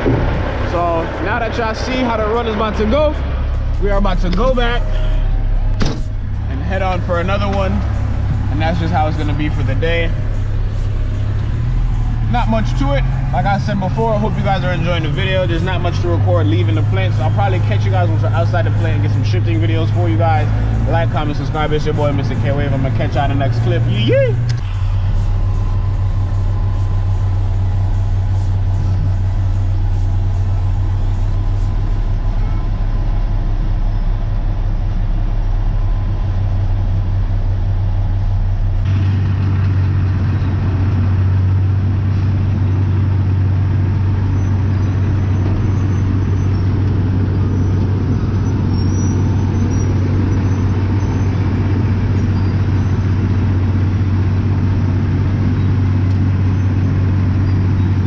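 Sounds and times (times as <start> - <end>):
diesel truck engine droning: 0.0 - 58.0
road milling machine rumbling: 0.0 - 58.0.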